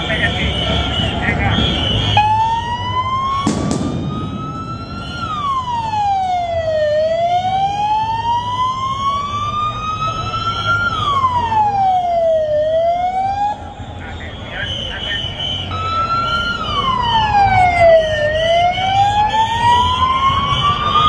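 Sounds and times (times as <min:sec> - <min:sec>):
wailing siren: 0:00.0 - 0:21.0.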